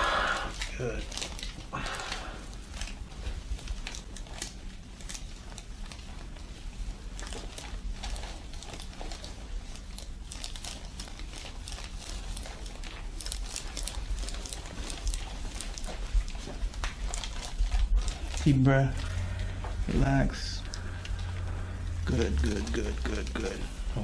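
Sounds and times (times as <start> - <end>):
low steady hum: 0.0 - 24.0
rustling and crinkling: 0.0 - 24.0.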